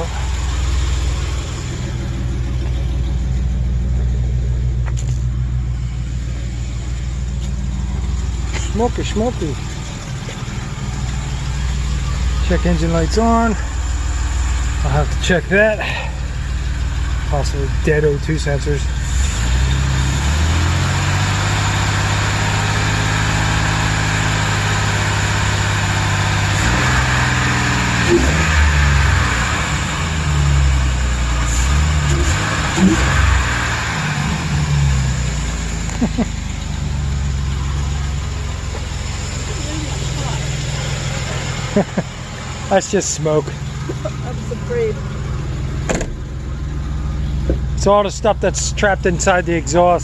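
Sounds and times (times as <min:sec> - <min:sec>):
van engine idling: 0:00.0 - 0:50.0.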